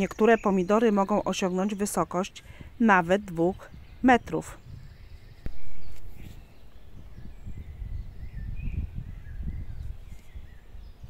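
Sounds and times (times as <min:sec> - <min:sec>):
faint bird chirps: 0:00.0 - 0:11.0
wind buffeting microphone: 0:00.0 - 0:11.0.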